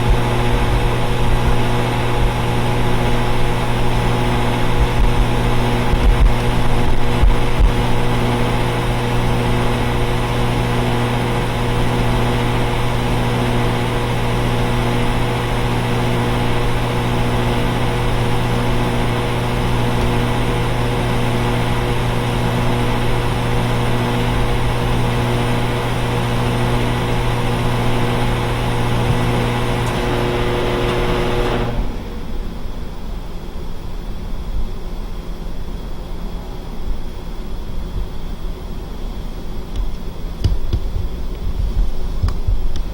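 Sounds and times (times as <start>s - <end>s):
compressor hum: 0.0s - 42.9s
fan rush: 0.0s - 42.9s.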